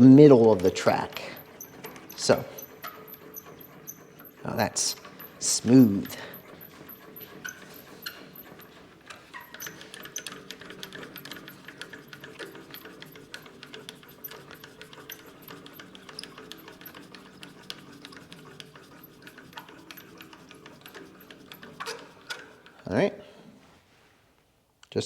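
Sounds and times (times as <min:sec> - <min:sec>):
tools clicking on metal lathe: 0:00.0 - 0:23.0.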